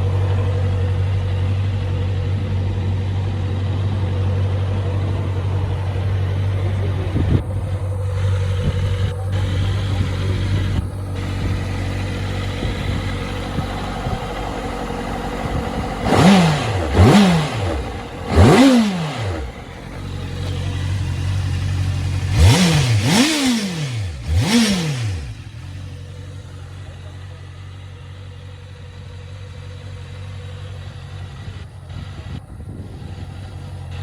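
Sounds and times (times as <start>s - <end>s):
motorcycle engine idling and revving: 0.0s - 34.0s.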